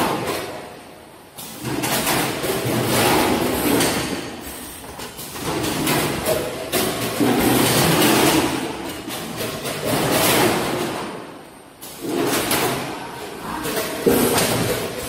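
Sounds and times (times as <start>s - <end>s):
packing machine clacking: 1.4s - 11.2s, 11.8s - 15.0s.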